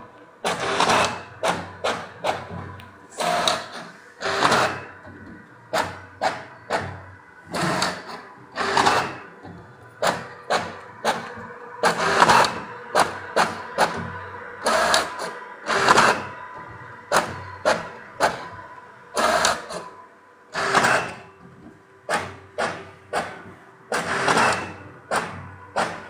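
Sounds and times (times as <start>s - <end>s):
inkjet printer printing: 0.0s - 26.0s.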